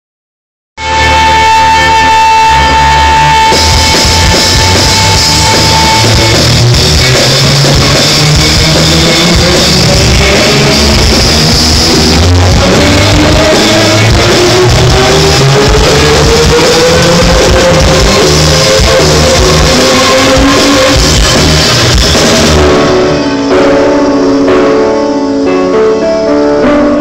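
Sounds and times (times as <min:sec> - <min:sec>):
drum kit: 0:00.8 - 0:27.0
electric guitar: 0:00.8 - 0:27.0
live band playing loudly: 0:00.8 - 0:27.0.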